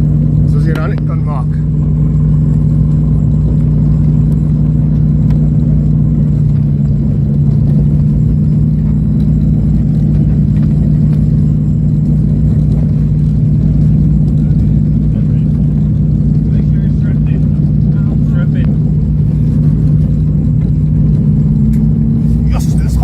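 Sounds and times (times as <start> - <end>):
low rumble: 0.0 - 23.0
propeller engines droning: 0.0 - 23.0.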